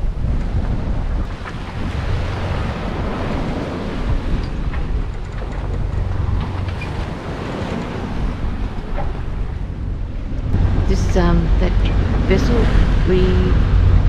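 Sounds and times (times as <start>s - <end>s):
sea breaking along hull: 0.0s - 14.0s
wind buffeting microphone: 0.0s - 14.0s.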